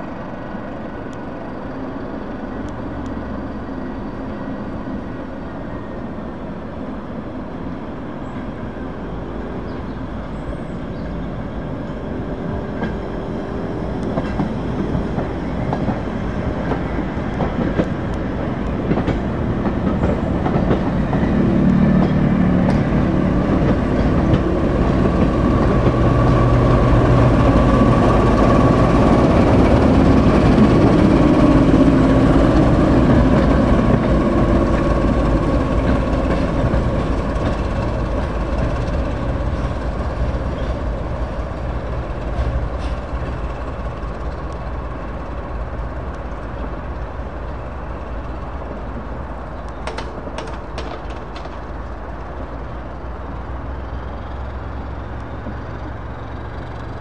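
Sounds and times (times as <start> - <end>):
diesel locomotive engine running: 0.0 - 57.0.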